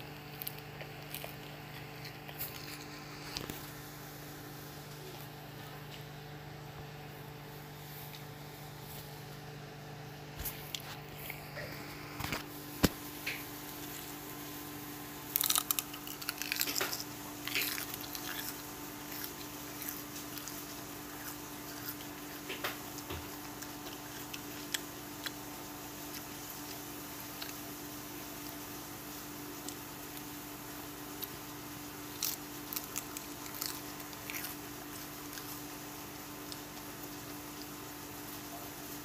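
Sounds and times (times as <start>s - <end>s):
lettuce crunching while chewed: 0.0s - 6.5s, 10.4s - 39.0s
faint steady hum: 0.0s - 39.0s.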